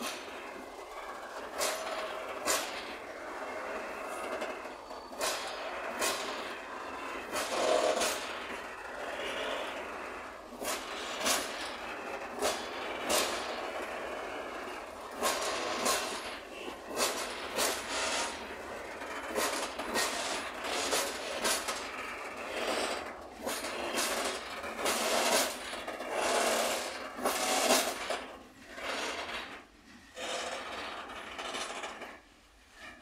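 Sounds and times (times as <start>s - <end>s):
freight train rumbling past: 0.0s - 31.2s.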